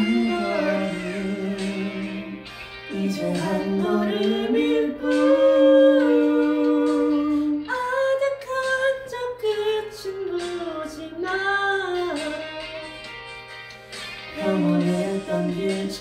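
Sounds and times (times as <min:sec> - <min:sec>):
vocal group singing in harmony: 0:00.0 - 0:13.0, 0:14.1 - 0:16.0.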